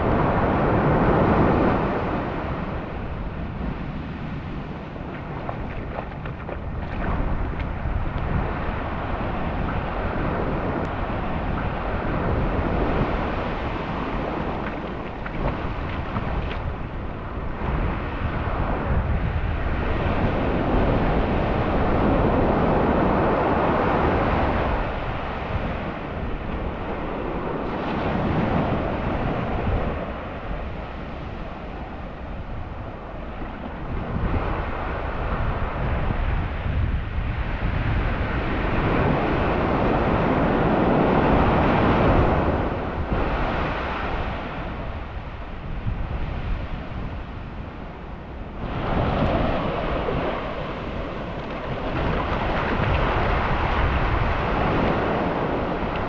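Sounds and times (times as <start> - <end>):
surf washing onto beach: 0.0 - 56.0
wind buffeting microphone: 0.0 - 56.0.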